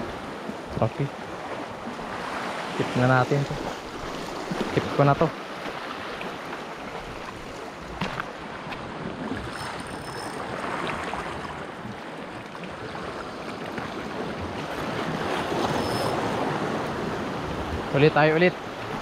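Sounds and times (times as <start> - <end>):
sea surf over rocks: 0.0 - 19.0.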